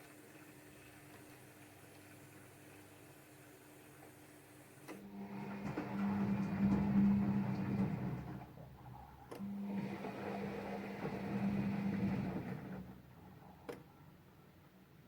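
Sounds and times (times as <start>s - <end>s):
washing machine motor humming: 0.0s - 14.1s.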